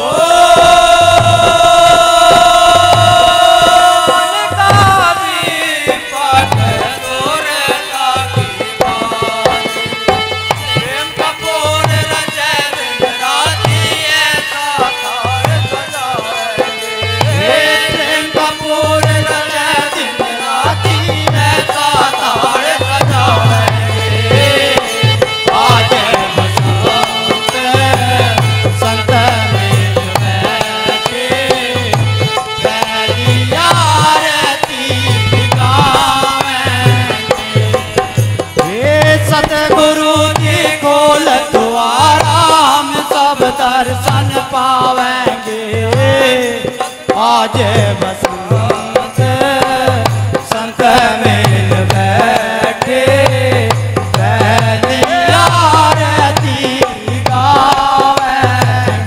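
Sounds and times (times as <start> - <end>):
hand drums in steady rhythm: 0.1 - 59.0.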